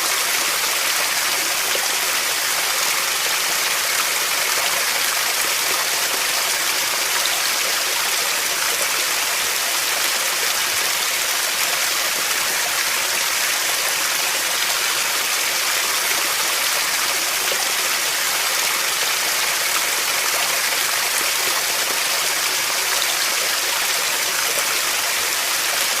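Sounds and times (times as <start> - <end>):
rushing water: 0.0 - 26.0.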